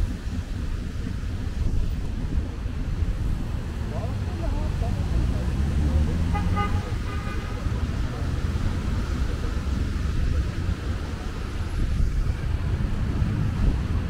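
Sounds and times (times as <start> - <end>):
cars driving through intersection: 0.0 - 14.0.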